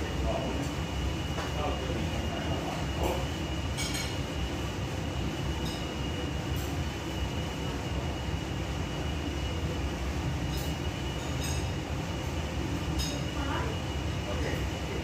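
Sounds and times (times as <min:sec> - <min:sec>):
extractor fan whirring: 0:00.0 - 0:15.0.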